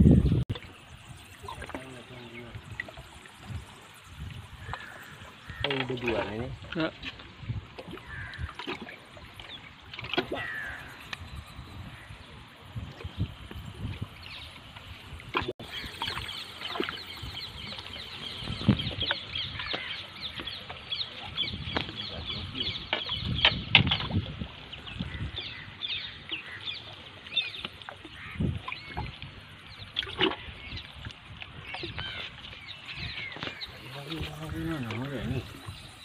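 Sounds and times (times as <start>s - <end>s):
birds chirping: 0.0s - 7.1s, 7.9s - 36.0s.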